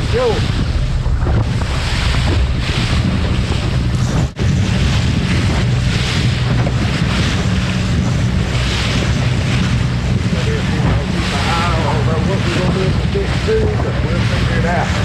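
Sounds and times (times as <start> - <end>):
boat motor rumble: 0.0 - 15.0
rushing water: 0.0 - 15.0
wind buffeting microphone: 0.0 - 15.0.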